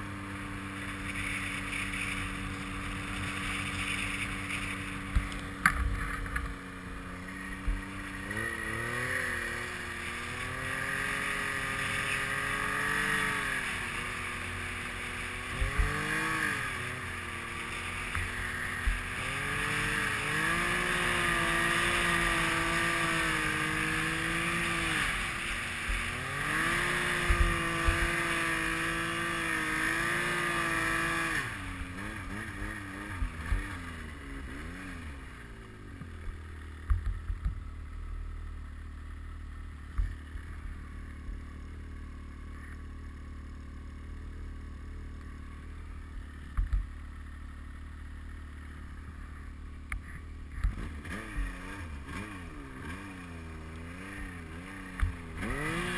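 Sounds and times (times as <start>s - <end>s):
snowmobile engine running hard: 0.0s - 39.1s, 39.8s - 55.9s.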